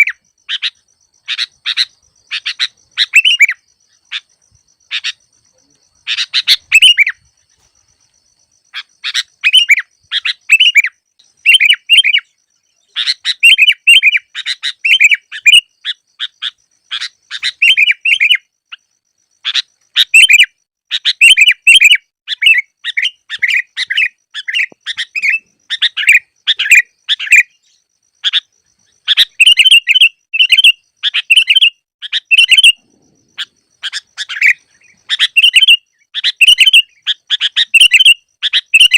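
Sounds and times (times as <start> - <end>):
bulbul chirping: 0.0 - 7.3, 8.6 - 38.9.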